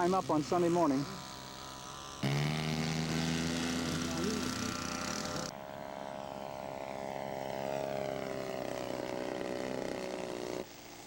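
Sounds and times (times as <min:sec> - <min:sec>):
model airplane engine flying: 0:00.0 - 0:11.0.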